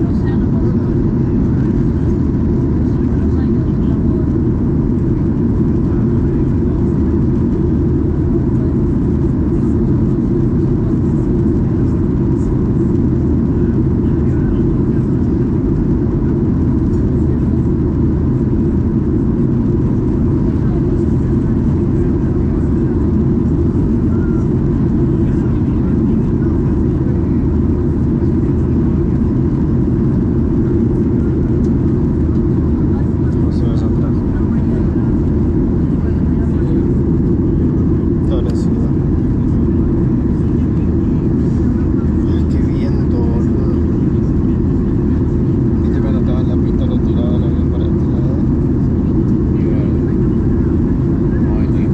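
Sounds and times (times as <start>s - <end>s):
airliner cabin engine roar: 0.0s - 51.9s
faint steady whine: 0.0s - 51.9s.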